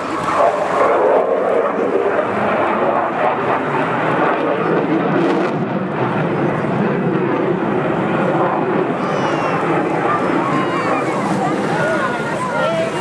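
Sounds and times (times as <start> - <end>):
fighter jet flying overhead: 0.0 - 13.0.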